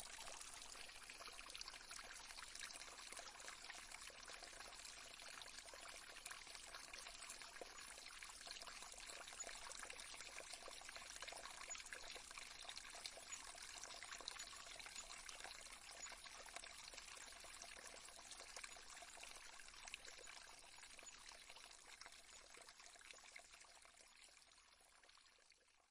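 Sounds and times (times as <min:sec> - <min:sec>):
stream trickling over stones: 0:00.0 - 0:25.9.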